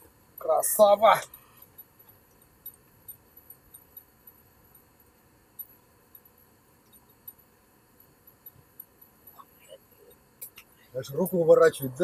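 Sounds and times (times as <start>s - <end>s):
faint high-pitched ticks: 0.0s - 11.5s.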